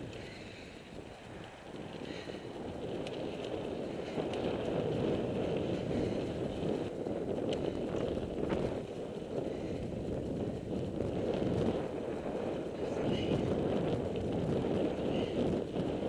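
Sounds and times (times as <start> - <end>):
bike rattling over bumps: 0.0 - 16.0
bike tyres rumbling on gravel: 0.0 - 16.0.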